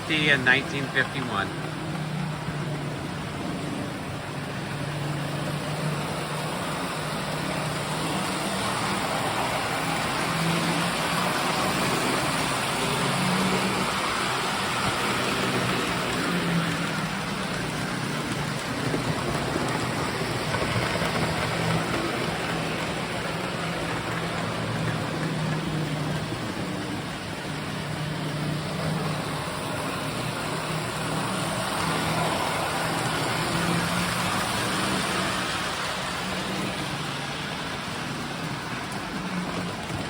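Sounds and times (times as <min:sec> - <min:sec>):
locomotive motors humming: 0:00.0 - 0:40.0
toy train wheels rattling: 0:04.7 - 0:40.0.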